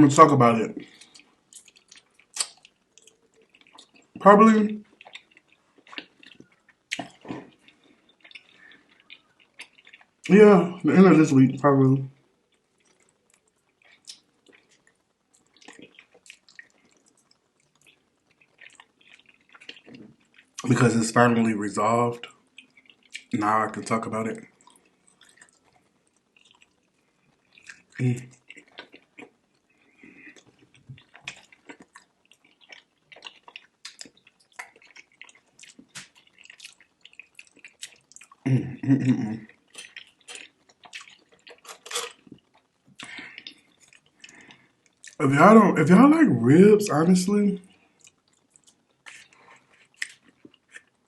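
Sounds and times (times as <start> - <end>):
person chewing and smacking: 0.7 - 10.3, 12.2 - 21.4, 22.1 - 45.2, 47.6 - 51.0.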